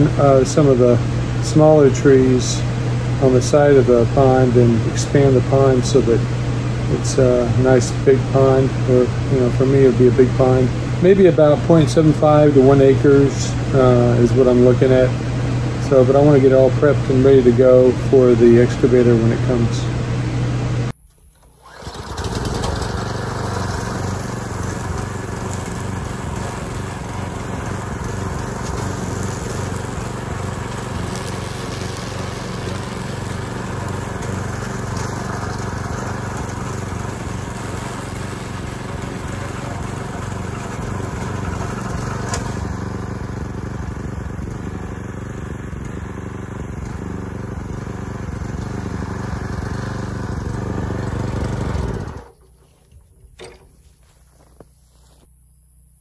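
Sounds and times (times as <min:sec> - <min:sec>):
string trimmer engine running: 0:00.0 - 0:55.9.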